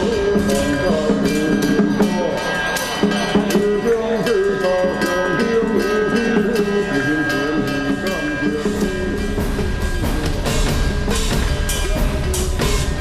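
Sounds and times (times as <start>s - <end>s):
percussion strikes: 0.0s - 13.0s
wavering festival melody: 0.0s - 13.0s.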